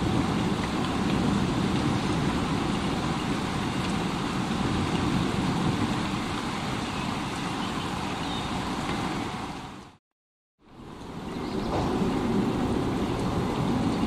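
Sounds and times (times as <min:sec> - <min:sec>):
heavy rain: 0:00.0 - 0:10.0, 0:10.6 - 0:14.0.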